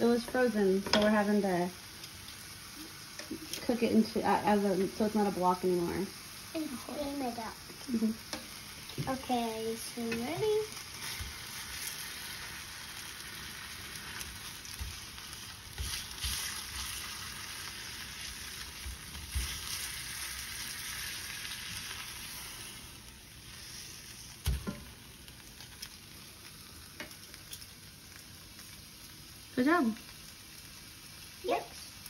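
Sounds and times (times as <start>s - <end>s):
meat sizzling in a skillet: 0.0s - 32.0s.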